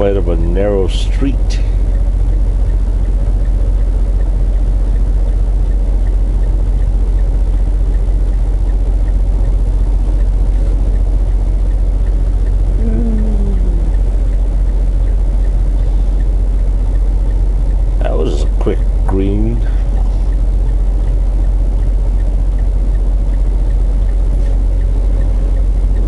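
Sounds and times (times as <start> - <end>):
diesel truck engine rumbling: 0.0 - 26.0.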